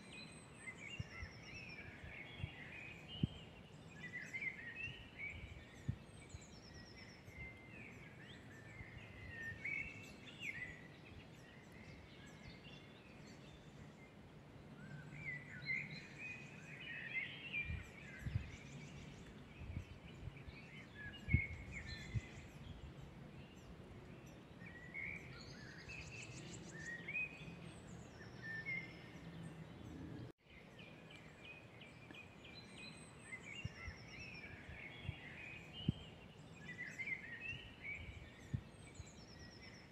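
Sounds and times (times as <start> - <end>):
birds singing and calling: 0.0 - 39.9.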